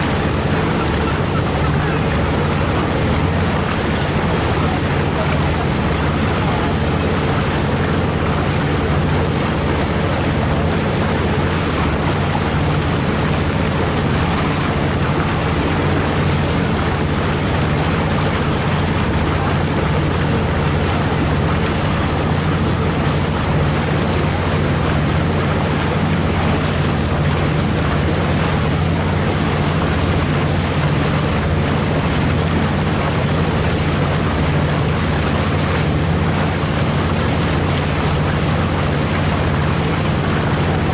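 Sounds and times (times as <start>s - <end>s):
boat engine drone: 0.0s - 40.9s
water rushing past hull: 0.0s - 40.9s.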